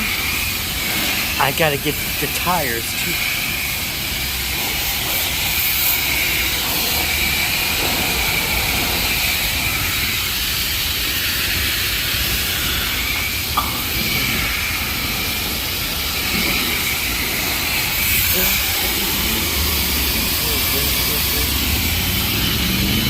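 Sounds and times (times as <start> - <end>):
high-pressure water spray hissing: 0.0 - 23.0.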